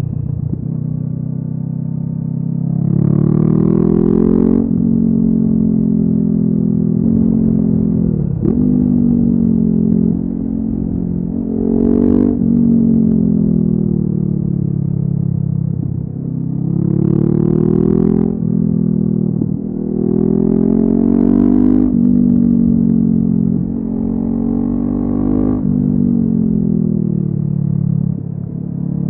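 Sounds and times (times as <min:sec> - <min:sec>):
motorcycle engine revving: 0:00.0 - 0:28.7.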